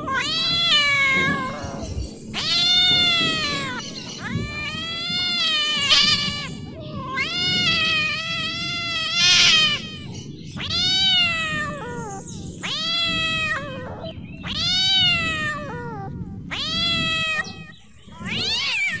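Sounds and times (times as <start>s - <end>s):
cat yowling: 0.0s - 19.0s.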